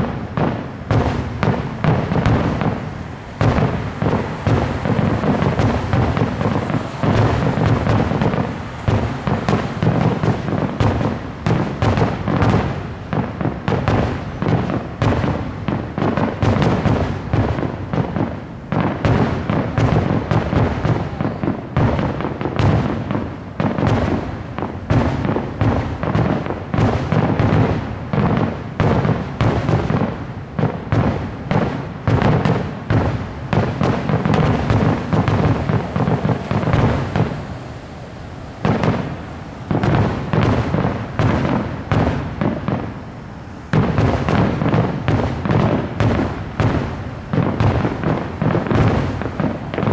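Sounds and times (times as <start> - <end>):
fireworks bursting: 0.0 - 49.9
fireworks crackling: 0.0 - 49.9.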